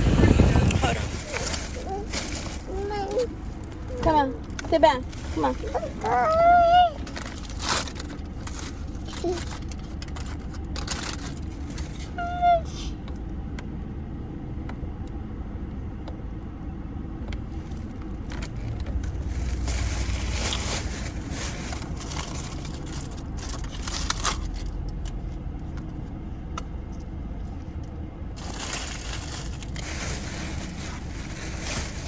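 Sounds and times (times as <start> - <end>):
moving car low rumble: 0.0 - 32.0
rustles and clicks in car cabin: 0.0 - 32.0.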